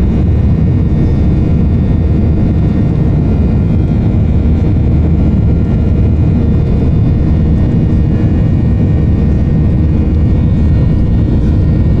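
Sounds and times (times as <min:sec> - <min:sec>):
airplane cabin engine roar: 0:00.0 - 0:12.0
faint steady whining tones: 0:00.0 - 0:12.0.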